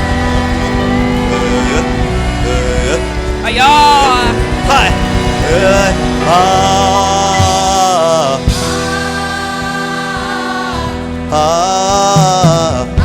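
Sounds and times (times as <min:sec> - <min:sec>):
gospel choir singing: 0:00.0 - 0:13.0
sustained instrumental backing: 0:00.0 - 0:13.0.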